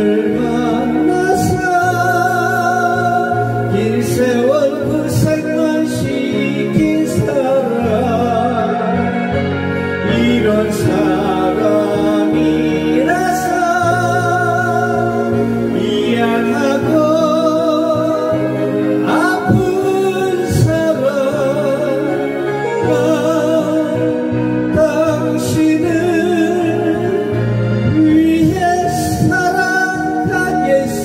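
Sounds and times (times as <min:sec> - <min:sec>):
backing track music: 0:00.0 - 0:31.0
man singing into microphone: 0:00.0 - 0:31.0.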